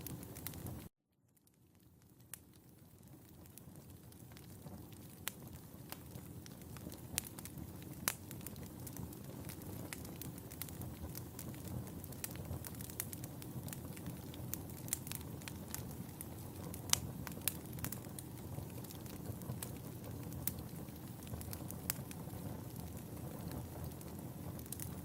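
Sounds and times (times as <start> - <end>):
fire crackling and popping: 0.0 - 25.0
low rumble of flame: 0.0 - 25.0.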